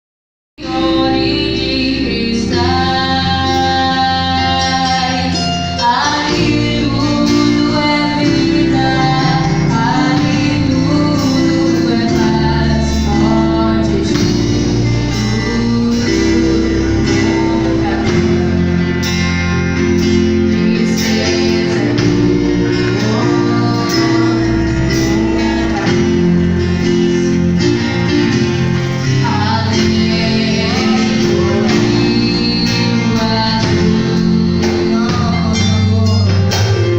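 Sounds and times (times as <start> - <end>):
guitar accompaniment: 0.6 - 36.9
people singing gospel song: 0.6 - 36.9.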